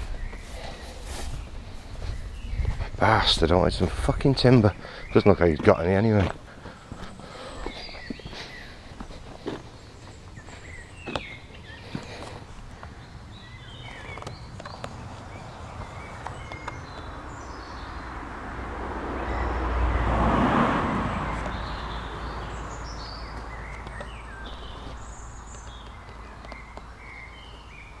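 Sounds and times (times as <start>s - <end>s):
small birds chirping: 0.0s - 20.1s, 21.0s - 28.0s.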